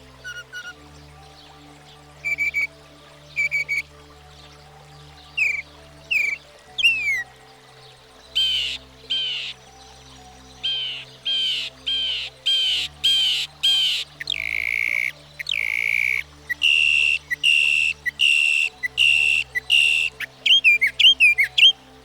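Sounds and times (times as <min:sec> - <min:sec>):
mockingbird singing: 0:02.2 - 0:03.9, 0:05.2 - 0:09.7, 0:10.4 - 0:22.0.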